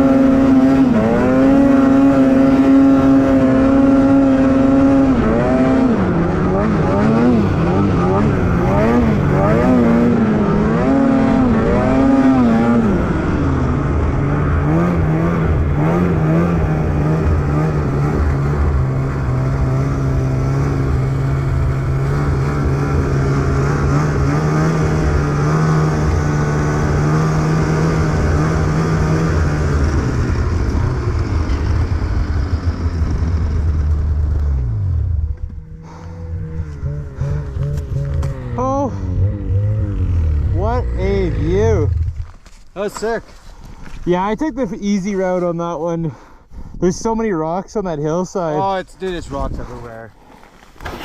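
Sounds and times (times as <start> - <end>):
snowmobile engine under throttle: 0.0 - 45.6.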